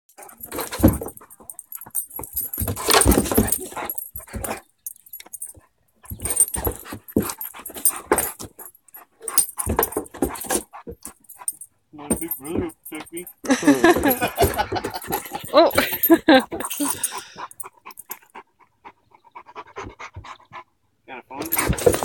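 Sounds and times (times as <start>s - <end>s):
dogs play-fighting: 0.2s - 20.8s, 21.4s - 22.0s.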